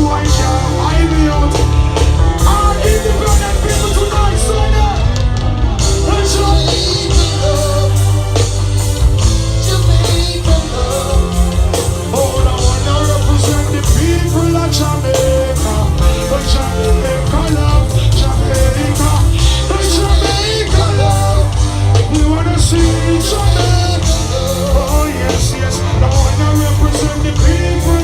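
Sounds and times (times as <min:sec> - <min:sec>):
heavy bass line: 0:00.0 - 0:28.0
live band music: 0:00.0 - 0:28.0
person singing: 0:00.0 - 0:28.0.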